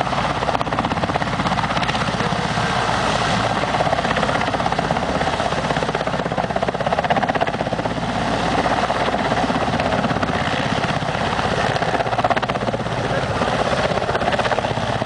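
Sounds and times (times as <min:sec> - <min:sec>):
helicopter engine noise: 0:00.0 - 0:15.0
helicopter rotor chopping: 0:00.0 - 0:15.0.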